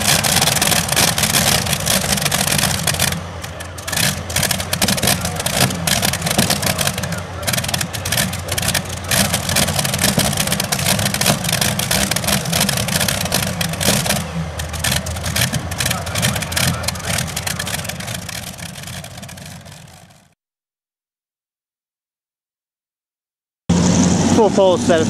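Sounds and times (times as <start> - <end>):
tractor engine idling loudly: 0.0 - 20.4.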